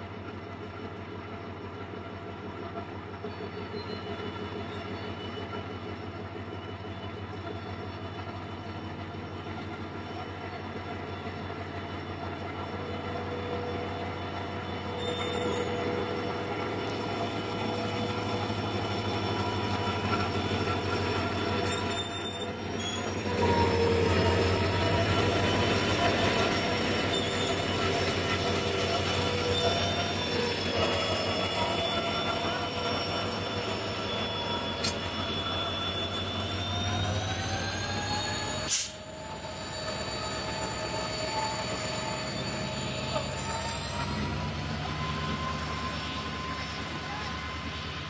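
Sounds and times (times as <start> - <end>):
diesel locomotive engine running: 0.0 - 48.0
train wheels squealing on rails: 0.0 - 48.0.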